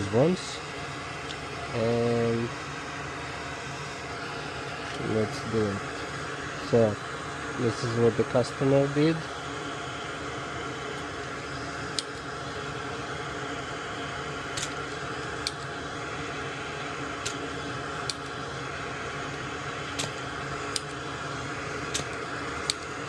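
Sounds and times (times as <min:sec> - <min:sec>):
fan-like hum: 0:00.0 - 0:23.0.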